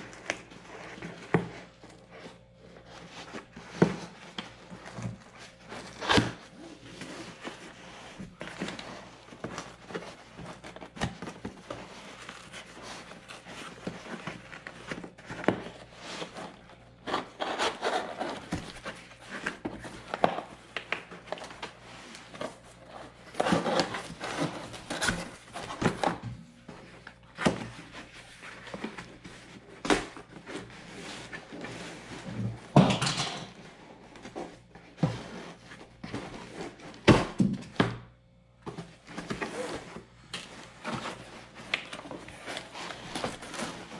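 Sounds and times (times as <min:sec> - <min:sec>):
packaging rustling and scraping: 0:00.0 - 0:37.5, 0:38.6 - 0:43.9.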